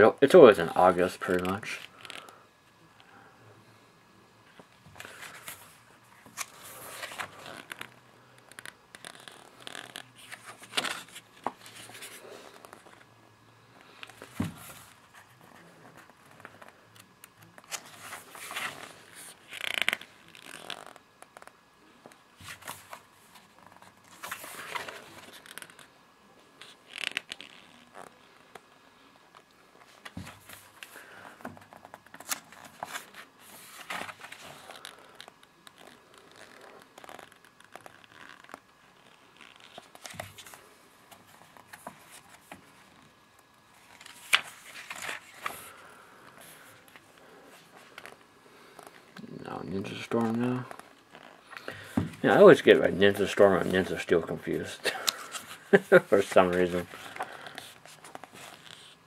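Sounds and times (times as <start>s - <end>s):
paper pages rustling: 4.9s - 13.0s, 13.8s - 25.9s, 29.8s - 43.0s, 43.7s - 49.2s, 49.9s - 59.0s.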